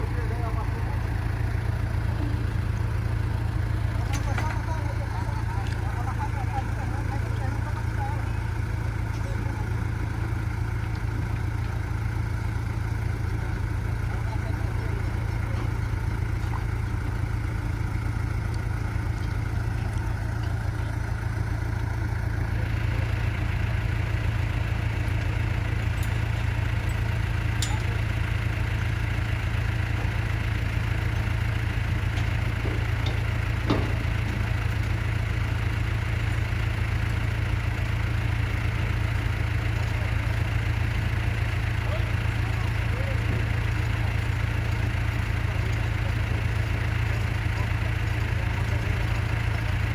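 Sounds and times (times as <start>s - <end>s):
motorboat engine running: 0.0s - 49.9s.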